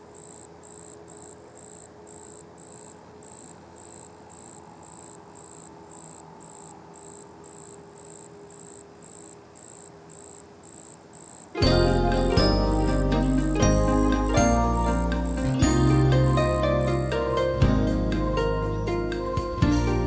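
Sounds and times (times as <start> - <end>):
insect chirping: 0.0 - 17.6
faint background hiss: 0.0 - 20.0.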